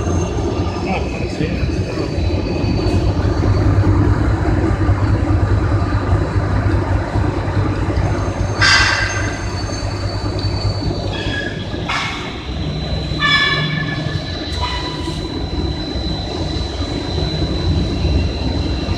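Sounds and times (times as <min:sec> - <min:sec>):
machine squealing: 0:00.0 - 0:05.4, 0:06.9 - 0:18.9
cable bunching machine rumbling: 0:00.0 - 0:18.9.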